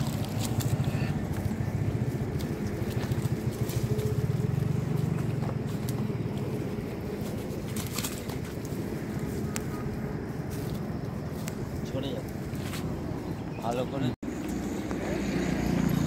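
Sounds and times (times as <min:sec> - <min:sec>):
bushes rustling: 0:00.0 - 0:15.0.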